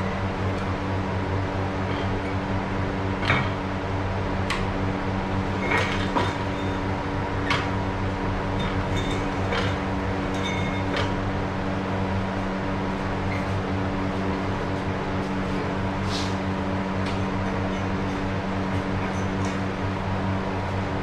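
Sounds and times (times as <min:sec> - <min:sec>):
workshop machine humming: 0:00.0 - 0:21.0.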